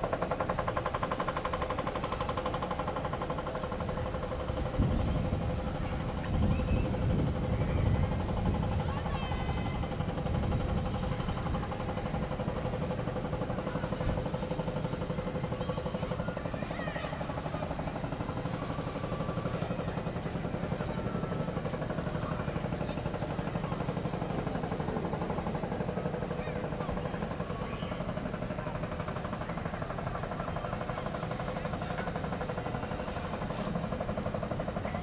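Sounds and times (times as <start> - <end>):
ship engine running: 0.0 - 35.0.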